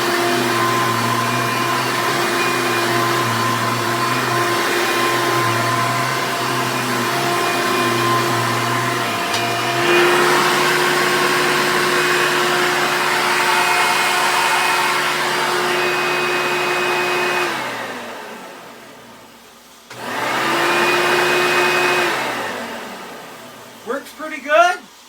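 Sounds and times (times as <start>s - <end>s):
vacuum cleaner motor whining: 0.0s - 25.0s.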